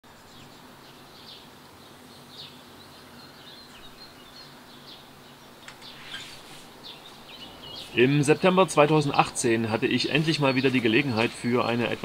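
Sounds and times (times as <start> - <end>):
outdoor background noise: 0.0 - 12.0
birds chirping: 0.1 - 12.0.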